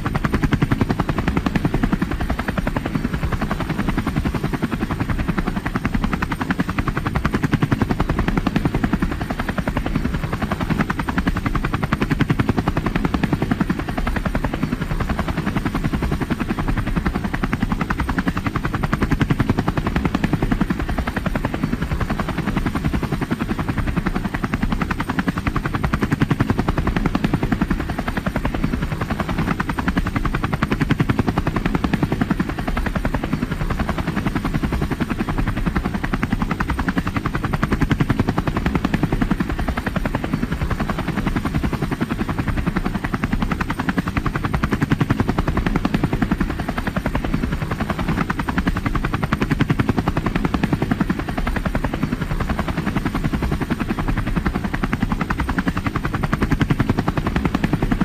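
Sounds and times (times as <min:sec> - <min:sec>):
helicopter rotor chopping: 0:00.0 - 0:58.0
helicopter turbine noise: 0:00.0 - 0:58.0.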